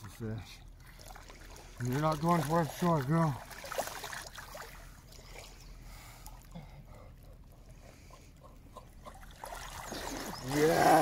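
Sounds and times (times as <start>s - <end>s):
water lapping and dripping: 0.4s - 11.0s.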